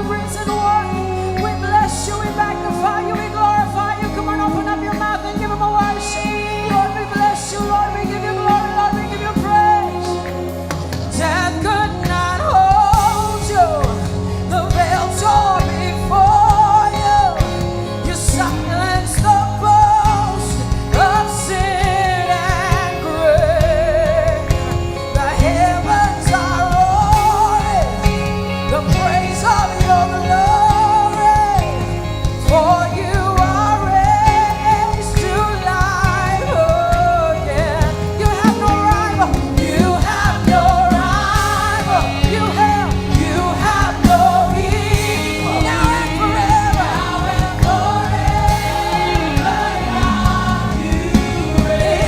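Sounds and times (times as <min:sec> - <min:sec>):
lead singer singing: 0:00.0 - 0:52.0
worship band playing: 0:00.0 - 0:52.0.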